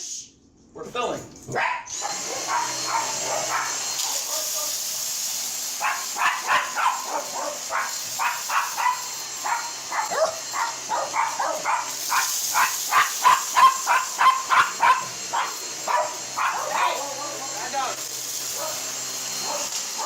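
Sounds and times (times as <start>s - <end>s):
dog barking: 1.5s - 4.8s, 5.8s - 17.4s, 18.5s - 20.0s
vacuum cleaner hiss: 1.9s - 20.0s.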